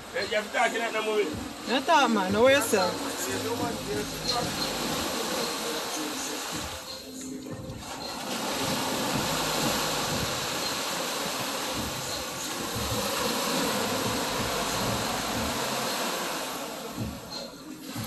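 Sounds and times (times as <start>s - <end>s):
surf: 0.0s - 18.0s
wind: 0.0s - 18.0s.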